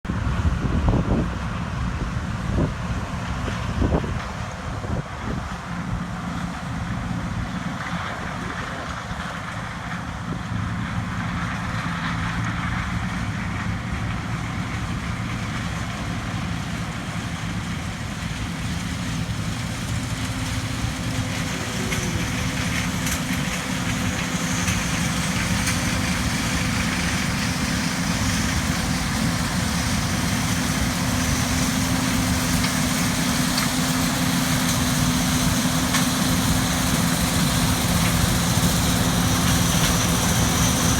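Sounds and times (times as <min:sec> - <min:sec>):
harvester engine running: 0:00.1 - 0:40.9.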